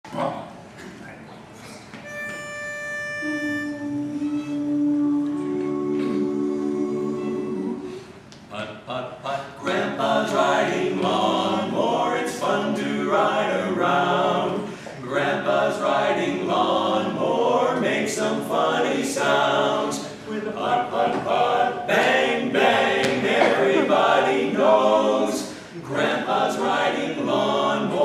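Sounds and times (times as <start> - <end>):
barbershop quartet singing a cappella: 3.2 - 28.0.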